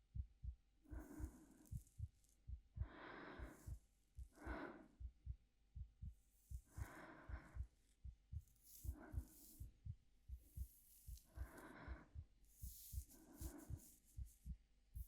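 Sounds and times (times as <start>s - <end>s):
heartbeat thumping: 0.0s - 15.0s
soft slow breaths: 0.8s - 15.0s.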